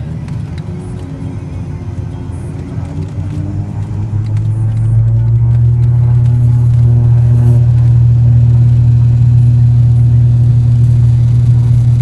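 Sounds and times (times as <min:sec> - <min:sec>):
propeller engine droning: 0:00.0 - 0:12.0.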